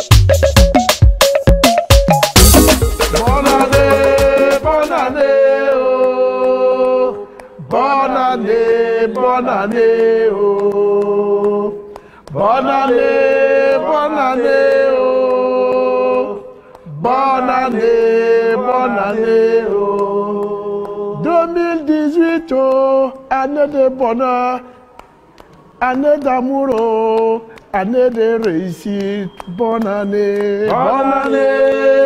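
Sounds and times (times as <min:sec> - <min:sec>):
male vocal group singing in harmony: 0:02.8 - 0:24.7, 0:25.8 - 0:32.0.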